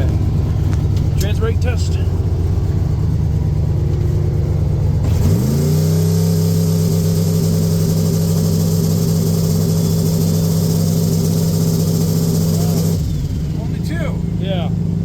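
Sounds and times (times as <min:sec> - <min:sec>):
truck engine idling and revving: 0:00.0 - 0:15.0.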